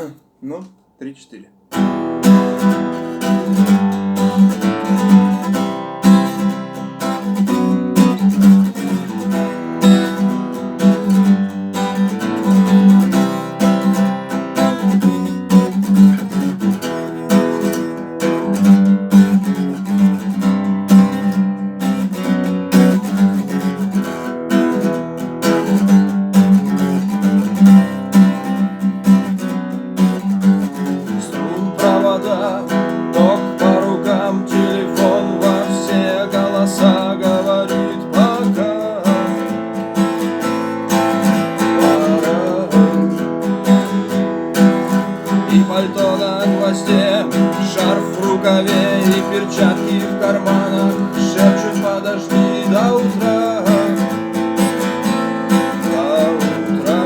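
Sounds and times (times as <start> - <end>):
acoustic guitar strumming chords: 0.0 - 57.0.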